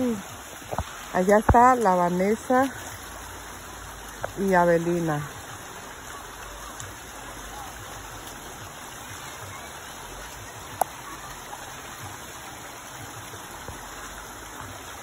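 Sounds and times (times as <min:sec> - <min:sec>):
creek running over rocks: 0:00.0 - 0:15.0.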